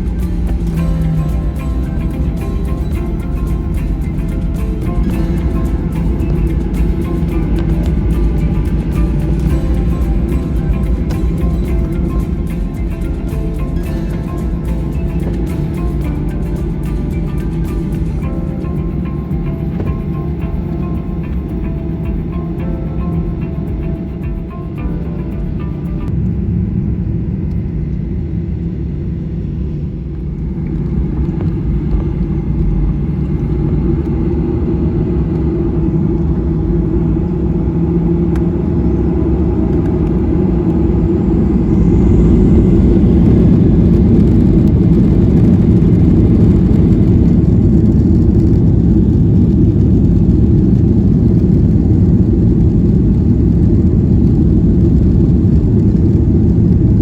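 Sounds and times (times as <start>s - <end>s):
jet engines roaring in cabin: 0.0s - 57.0s.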